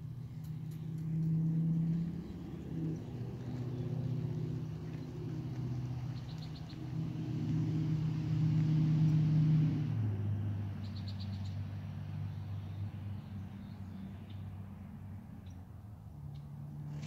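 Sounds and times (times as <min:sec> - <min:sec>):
vehicle engine hum passing: 0:00.0 - 0:17.0.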